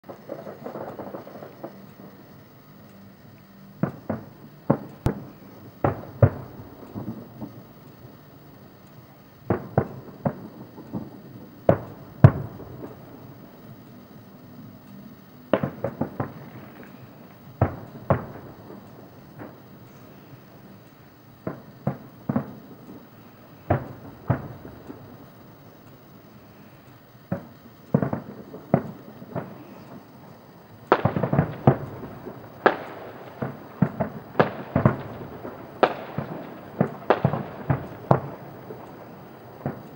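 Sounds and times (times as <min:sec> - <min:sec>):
firework shells bursting: 0:00.0 - 0:39.9.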